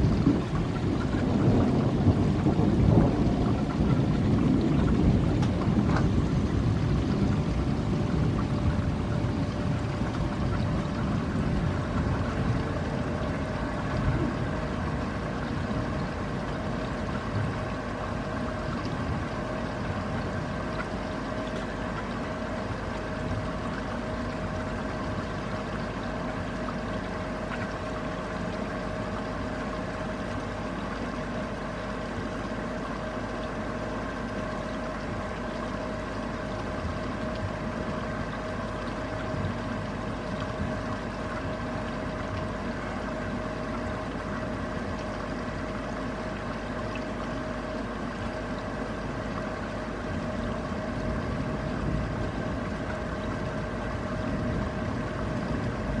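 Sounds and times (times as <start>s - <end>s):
constant tonal hum: 0.0s - 56.0s.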